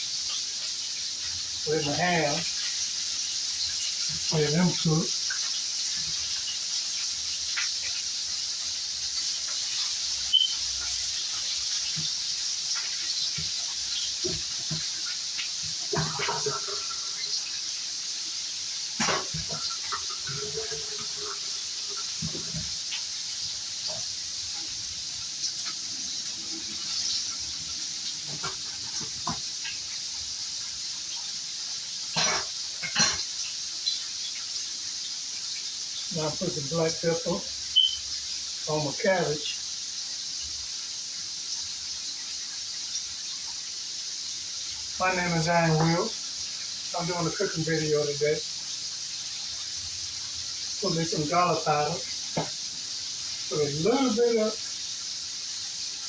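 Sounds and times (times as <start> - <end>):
food sizzling on a stove: 0.0 - 56.0.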